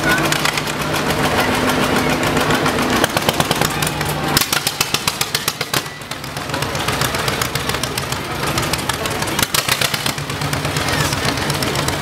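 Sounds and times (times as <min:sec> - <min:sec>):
tractor engine popping exhaust: 0:00.0 - 0:12.0.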